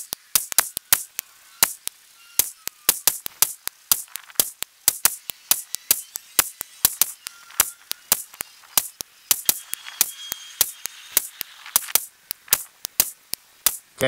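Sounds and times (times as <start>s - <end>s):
rapid sped-up rifle shots: 0.0s - 1.8s, 2.4s - 13.8s.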